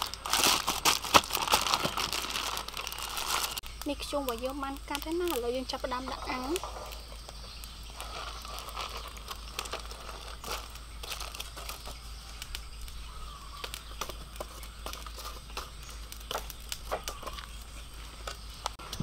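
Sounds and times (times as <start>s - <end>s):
aluminium foil crinkling: 0.0s - 19.0s
small clicks and crackles: 0.0s - 19.0s.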